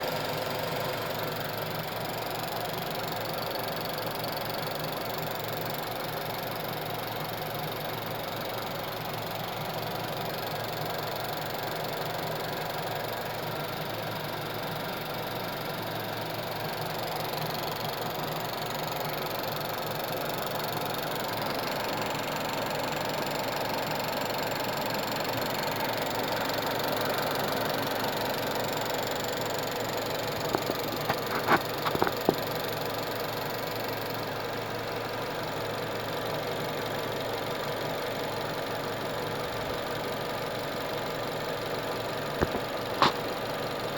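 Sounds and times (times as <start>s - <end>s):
car engine idling: 0.0s - 43.9s
engine ticking: 0.0s - 43.9s.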